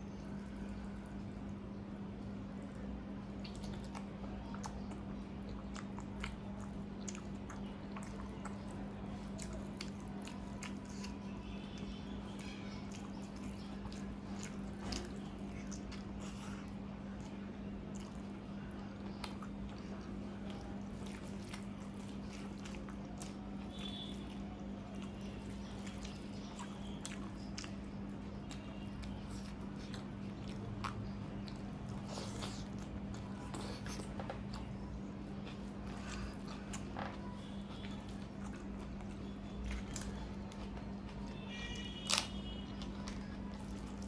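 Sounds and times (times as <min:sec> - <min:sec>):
steady low hum: 0:00.0 - 0:44.0
person chewing and lip smacking: 0:02.5 - 0:44.0.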